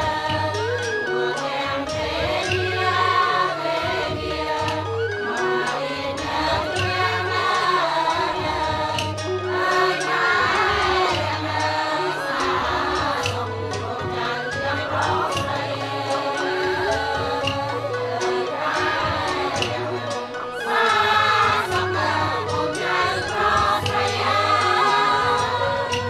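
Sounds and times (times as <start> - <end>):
light percussion: 0.0 - 26.0
wavering theatre music melody: 0.0 - 26.0.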